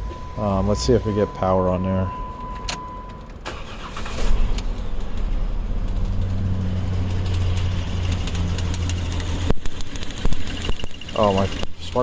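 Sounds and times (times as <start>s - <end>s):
car engine starting and running: 0.0s - 12.0s.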